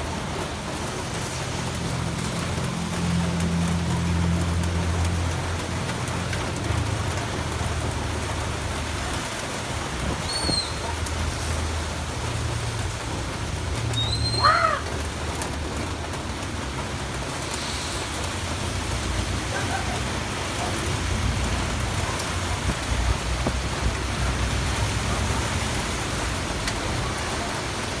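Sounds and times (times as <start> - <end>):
rain on metal roofs: 0.0 - 28.0
vehicles passing: 0.0 - 28.0.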